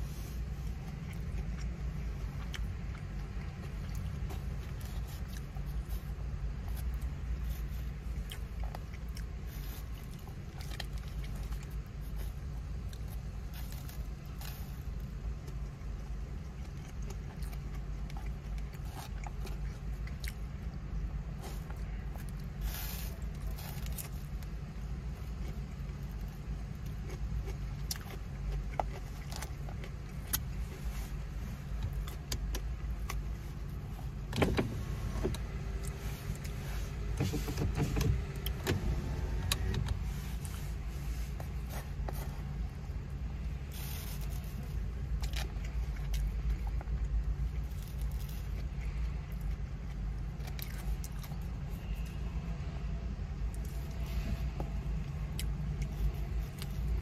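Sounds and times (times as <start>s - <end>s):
person chewing: 0.0s - 34.3s, 35.2s - 37.4s, 38.2s - 52.2s, 53.4s - 57.0s
car engine rumble: 0.0s - 57.0s.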